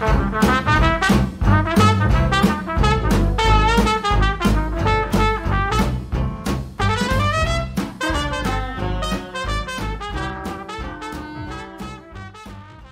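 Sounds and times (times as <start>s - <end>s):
swing jazz with brass horns: 0.0s - 12.9s.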